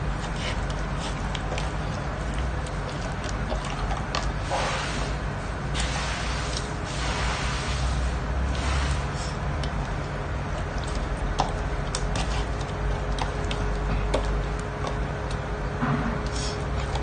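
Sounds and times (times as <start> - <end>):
hands squishing fish in marinade: 0.0 - 7.8, 8.5 - 17.0
steady background hum: 0.0 - 17.0.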